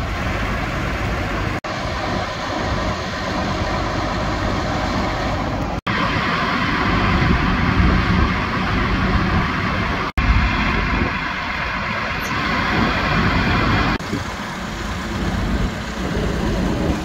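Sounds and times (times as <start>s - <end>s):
diesel trucks idling: 0.0s - 17.0s.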